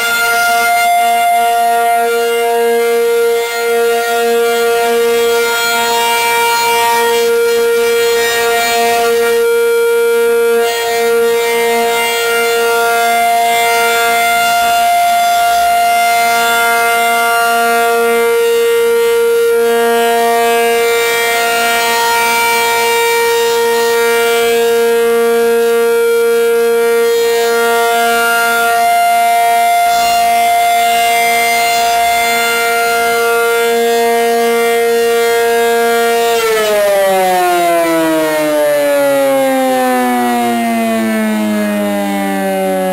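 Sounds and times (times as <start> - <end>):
warning siren: 0.0 - 42.9.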